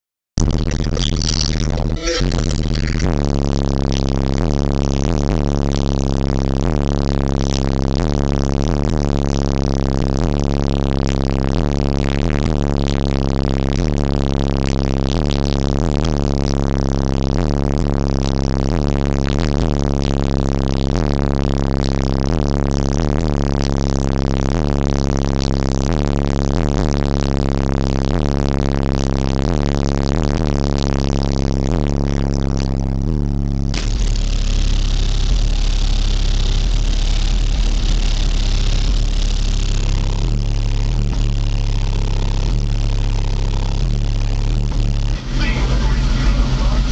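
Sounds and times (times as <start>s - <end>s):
distorted bass from subwoofers: 0.3s - 46.9s.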